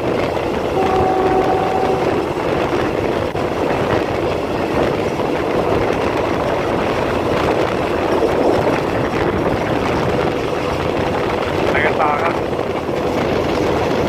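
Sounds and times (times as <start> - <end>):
diesel railcar rumbling: 0.0 - 14.0.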